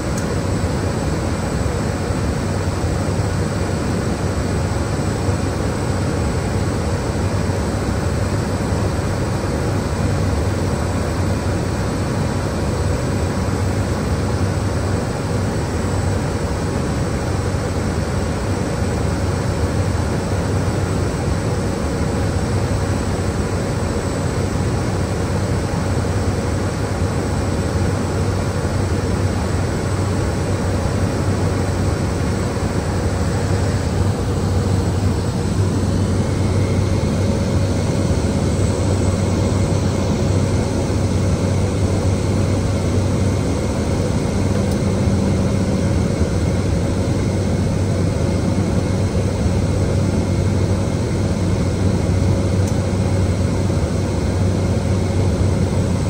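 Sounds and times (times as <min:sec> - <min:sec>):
turboprop engine droning: 0:00.0 - 0:56.0.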